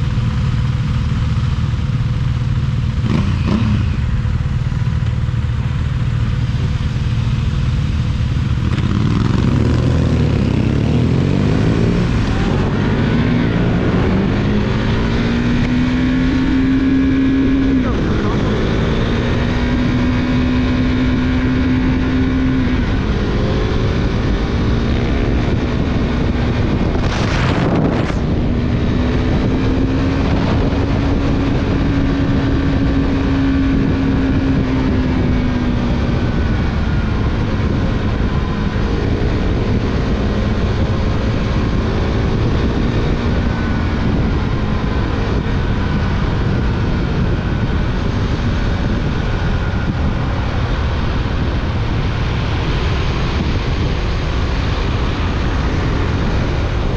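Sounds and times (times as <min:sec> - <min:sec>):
motorcycle engine running: 0:00.0 - 0:56.9
wind noise on microphone: 0:02.8 - 0:56.9.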